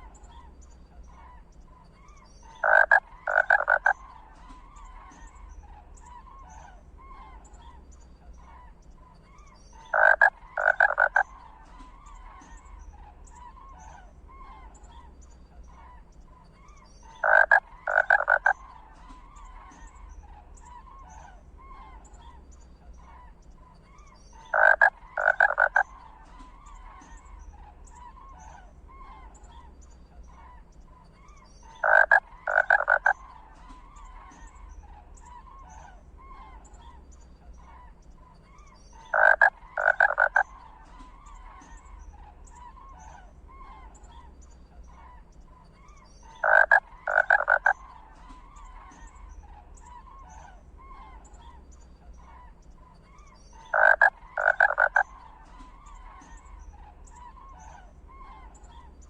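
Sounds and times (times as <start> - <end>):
chorus of croaking calls: 0.0 - 59.0.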